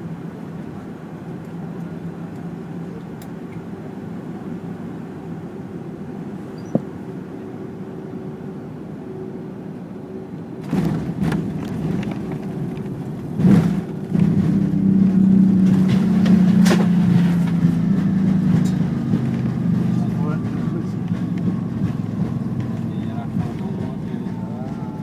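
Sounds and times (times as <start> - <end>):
airliner cabin engine drone: 0.0 - 25.0.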